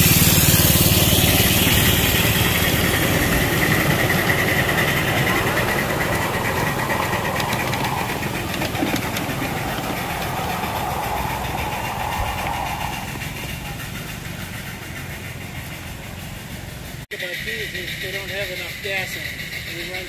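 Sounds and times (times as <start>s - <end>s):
miniature steam train running: 0.0s - 20.0s.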